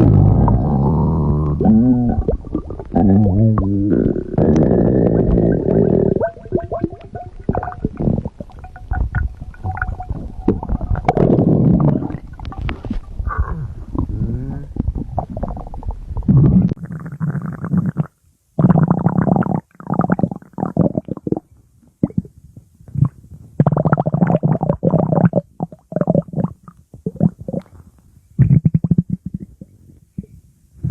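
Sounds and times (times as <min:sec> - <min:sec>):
stomach growling and gurgling: 0:00.0 - 0:30.9.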